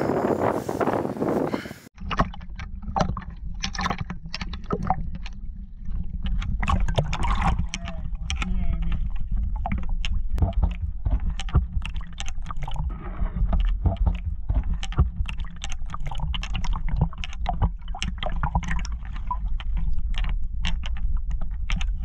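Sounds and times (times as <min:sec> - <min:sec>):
water sloshing and gurgling: 0:01.9 - 0:22.0
low rumble: 0:02.4 - 0:22.0.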